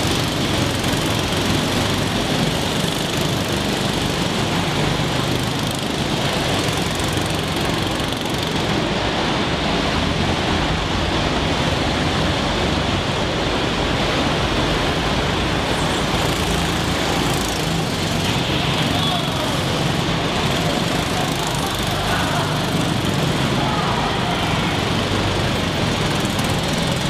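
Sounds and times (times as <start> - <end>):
go-kart engines running: 0.0 - 27.0.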